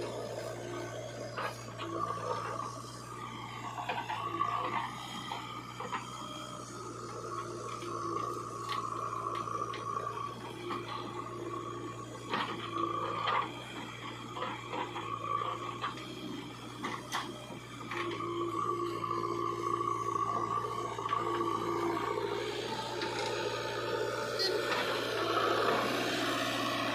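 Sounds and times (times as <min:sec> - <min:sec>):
backhoe motor hum: 0:00.0 - 0:26.9
motor whine: 0:00.0 - 0:26.9.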